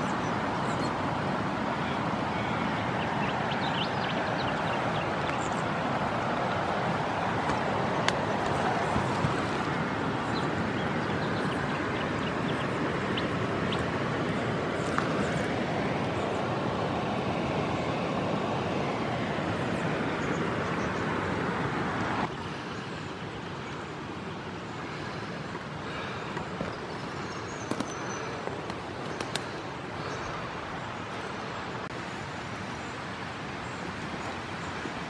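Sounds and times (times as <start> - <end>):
rushing outdoor background noise: 0.0 - 35.0.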